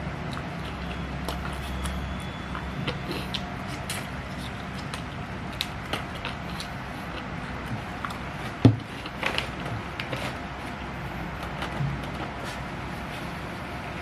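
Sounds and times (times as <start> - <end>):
close chewing and mouth clicks: 0.0 - 12.7
low background hum: 0.0 - 14.0.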